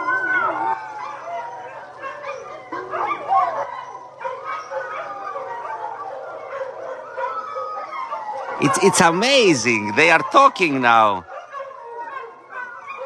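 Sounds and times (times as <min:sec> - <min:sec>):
dogs howling in chorus: 0:00.0 - 0:10.5, 0:11.2 - 0:13.0.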